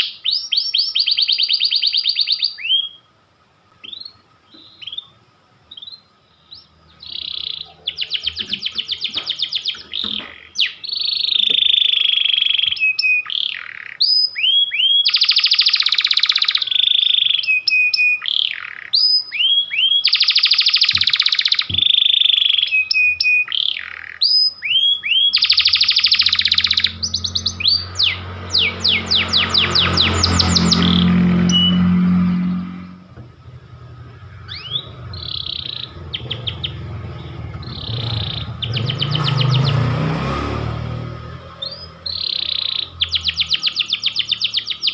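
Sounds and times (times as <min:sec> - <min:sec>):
canary singing: 0:00.0 - 0:03.2, 0:03.8 - 0:44.9.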